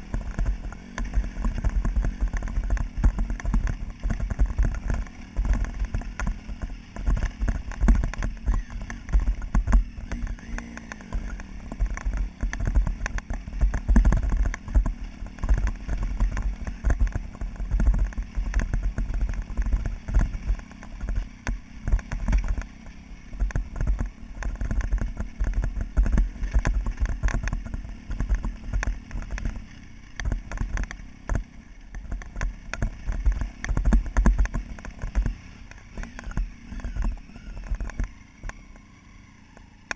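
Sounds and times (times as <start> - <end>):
knocks and rattles of bike: 0.0 - 39.9
motorcycle engine and wind rumble: 0.0 - 39.9.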